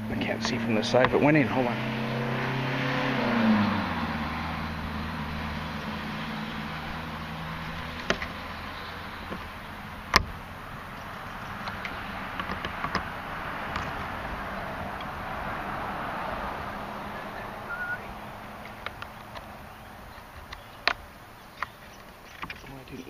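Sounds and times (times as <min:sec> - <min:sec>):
vehicle engine passing by: 0:00.0 - 0:20.8.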